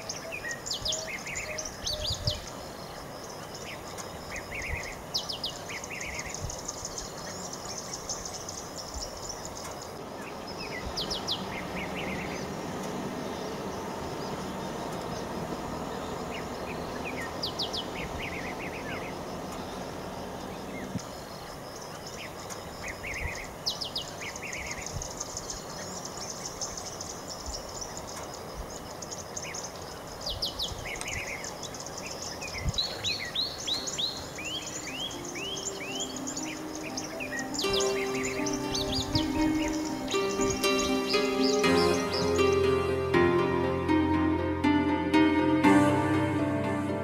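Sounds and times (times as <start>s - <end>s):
high insect hiss: 0.0s - 43.2s
wild birds chirping and whistling: 0.0s - 45.2s.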